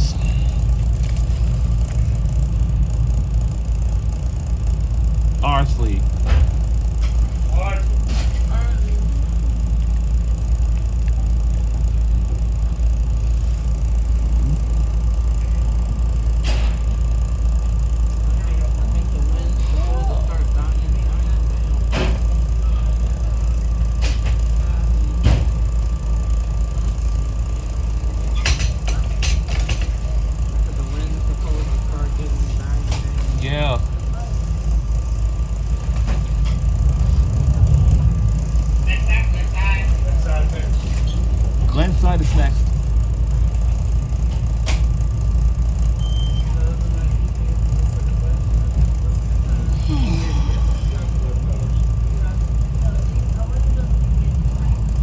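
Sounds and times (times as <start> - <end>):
faint steady whine: 0.0 - 55.0
train rumble: 0.0 - 55.0.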